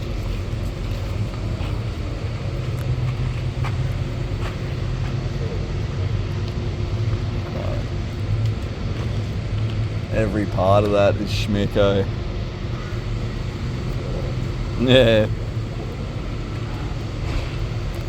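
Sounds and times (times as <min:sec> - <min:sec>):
large engine idling: 0:00.0 - 0:18.0.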